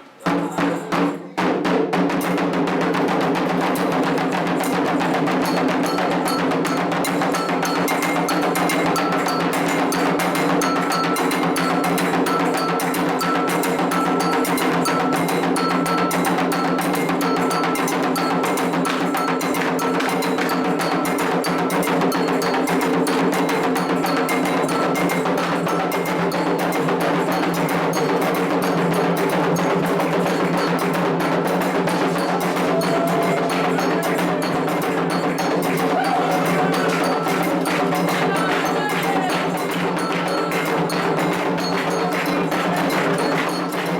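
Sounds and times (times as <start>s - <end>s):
hand drums fast rhythm: 0.0s - 43.9s
metal bell ringing: 3.7s - 43.9s.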